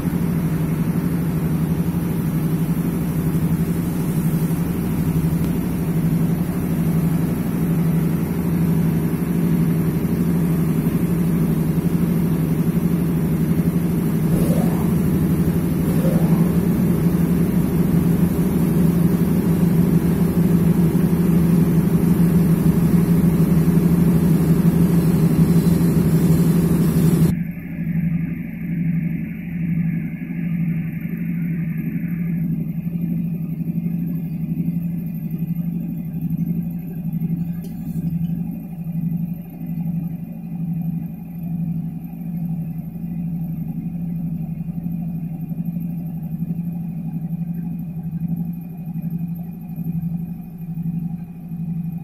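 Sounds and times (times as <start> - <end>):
machine running low drone: 0.0 - 52.0.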